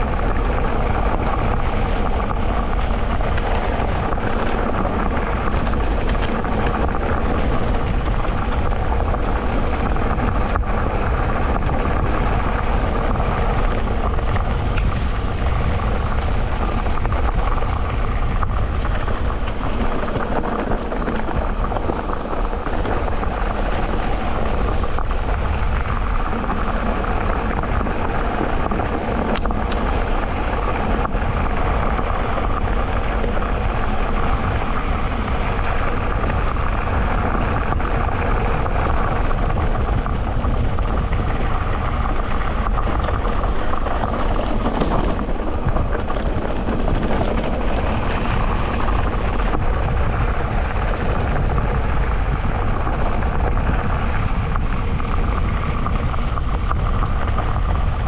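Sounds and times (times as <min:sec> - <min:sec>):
bike rattling: 0:00.0 - 0:58.0
bike tyres rushing on dirt: 0:00.0 - 0:58.0
constant drone: 0:00.0 - 0:58.0.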